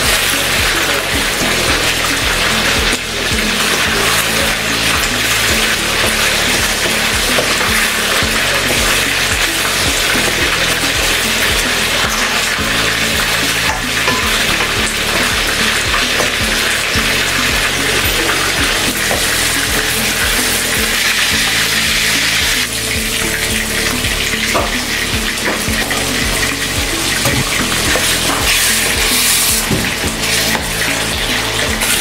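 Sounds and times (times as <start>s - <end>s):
food sizzling in a metal pan: 0.0s - 32.0s
spatula scraping and knocking pan: 0.0s - 32.0s.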